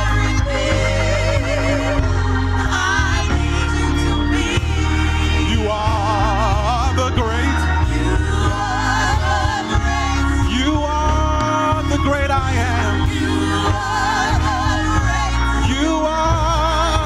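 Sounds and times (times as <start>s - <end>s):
band with heavy bass line: 0.0s - 17.0s
praise team singing: 0.0s - 17.0s.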